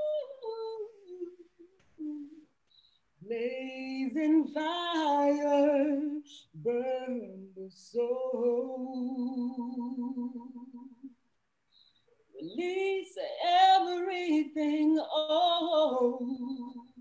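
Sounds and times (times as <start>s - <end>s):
woman singing unaccompanied: 0.0s - 2.5s, 3.2s - 11.2s, 12.4s - 17.0s.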